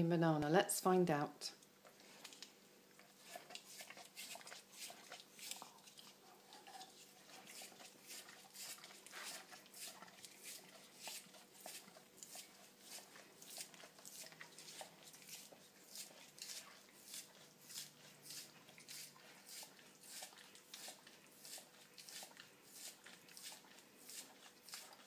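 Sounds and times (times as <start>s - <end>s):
dog licking wet licks: 3.3s - 25.0s.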